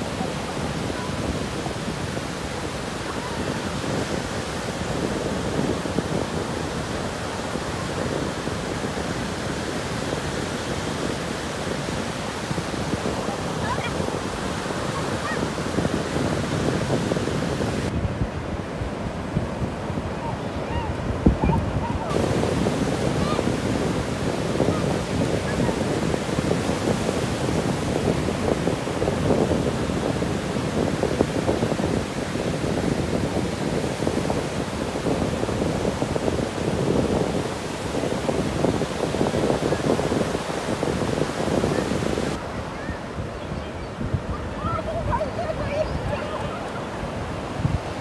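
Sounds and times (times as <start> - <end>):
ocean surf breaking on sand: 0.0 - 48.0
wind buffeting microphone: 0.0 - 48.0.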